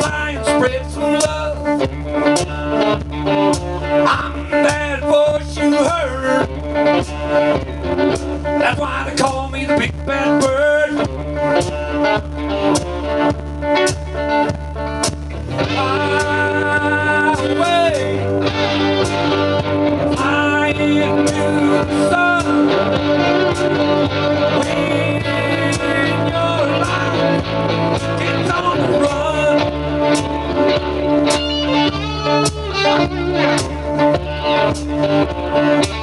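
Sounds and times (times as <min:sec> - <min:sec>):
acoustic guitar strumming: 0:00.0 - 0:36.0
sliding melody line: 0:00.0 - 0:36.0.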